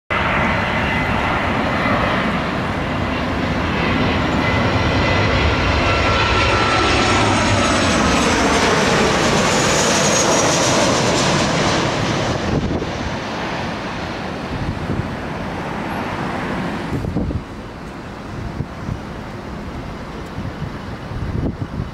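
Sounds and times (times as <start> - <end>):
jet plane roaring overhead: 0.1 - 21.9.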